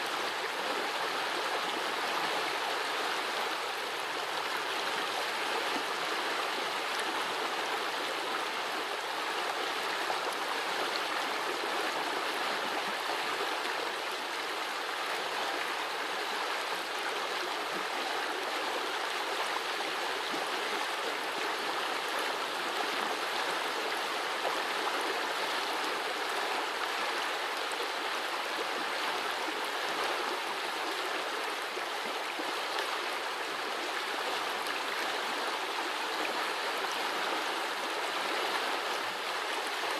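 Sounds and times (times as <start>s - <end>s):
brook gurgling: 0.0s - 39.9s.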